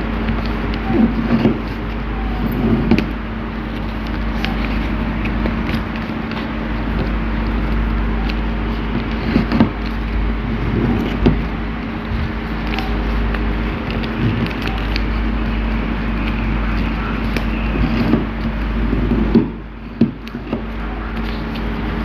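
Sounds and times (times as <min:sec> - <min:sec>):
paper being folded and creased: 0:00.0 - 0:22.0
steady background hum: 0:00.0 - 0:22.0.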